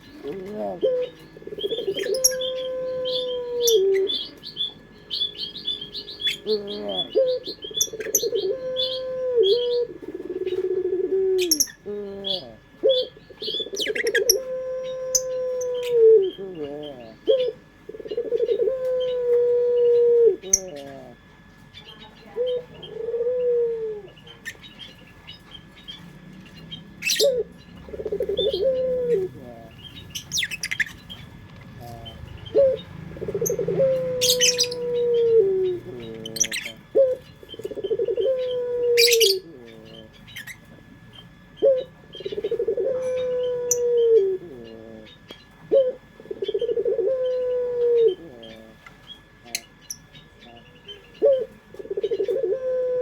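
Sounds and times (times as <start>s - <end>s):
small birds chirping: 0.0s - 53.0s
turtle dove cooing: 0.0s - 53.0s.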